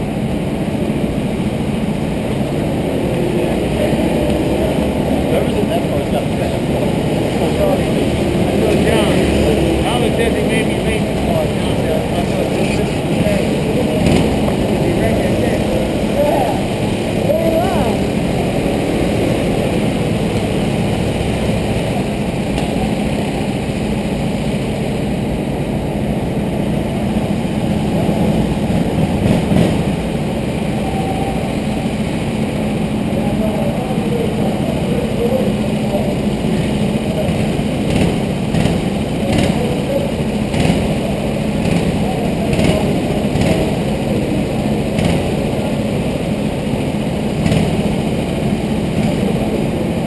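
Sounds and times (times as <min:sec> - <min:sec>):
go-kart engines droning: 0:00.0 - 0:50.0.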